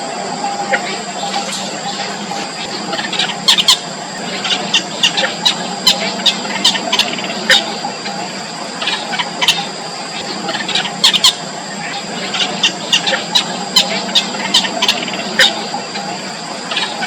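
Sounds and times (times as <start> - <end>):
nestlings squeaky begging calls: 0.5 - 17.0.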